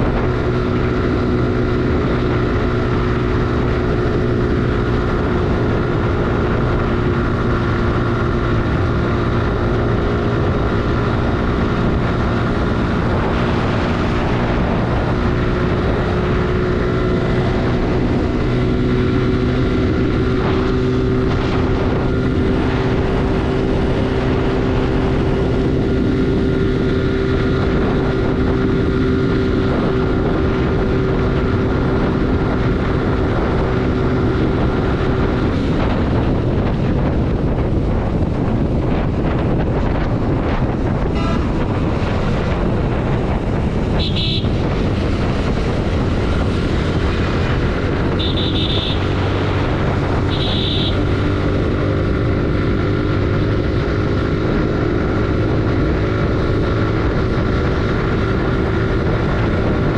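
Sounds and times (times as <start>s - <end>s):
motorcycle engine running: 0.0s - 59.9s
wind rushing past microphone: 0.0s - 59.9s.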